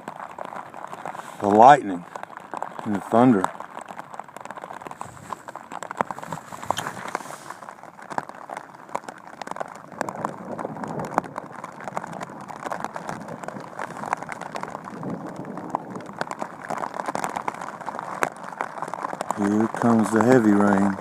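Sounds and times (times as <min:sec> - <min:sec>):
rain pattering on fabric: 0:00.0 - 0:21.0.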